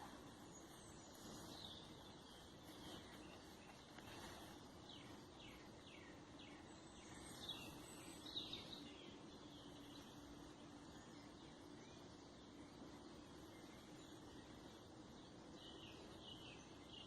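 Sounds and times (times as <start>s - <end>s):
faint birdsong: 0.0s - 17.0s
steady low hum: 0.0s - 17.0s.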